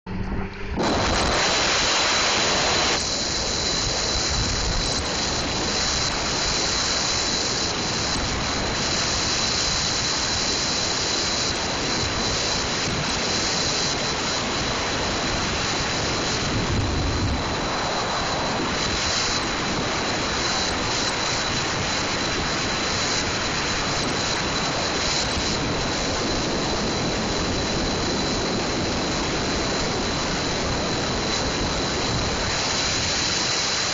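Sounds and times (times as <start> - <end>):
car road and wind noise: 0.1 - 33.9.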